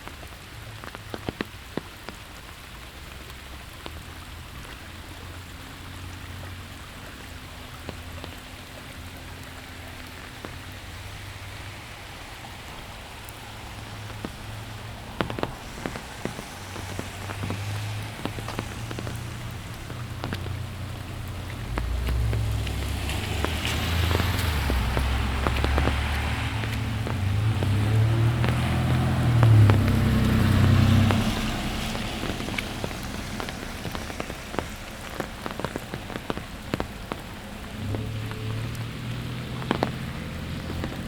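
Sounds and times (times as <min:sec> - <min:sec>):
heavy raindrops tapping: 0:00.0 - 0:41.0
rain falling on street: 0:00.0 - 0:41.0
vehicle approaching on wet road: 0:00.0 - 0:41.0.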